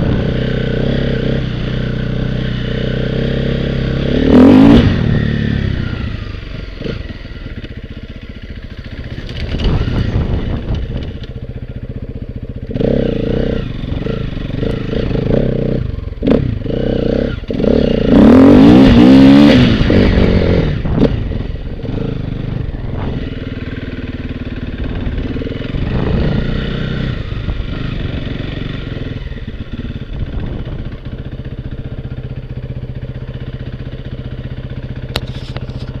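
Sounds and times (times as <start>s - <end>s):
small vehicle engine revving: 0.0s - 7.8s, 8.9s - 11.3s, 12.6s - 36.0s.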